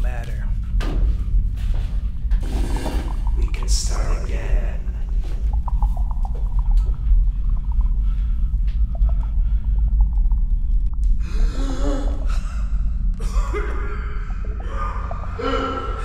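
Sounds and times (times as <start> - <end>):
deep rumbling drone: 0.0 - 16.0.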